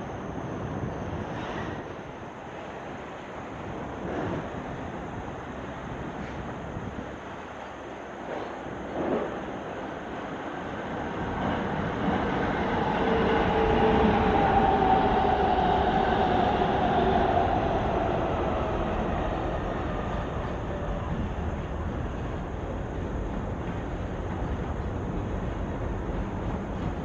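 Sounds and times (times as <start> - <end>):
freight train rail rumble: 0.0 - 27.0
locomotive whine: 0.0 - 27.0.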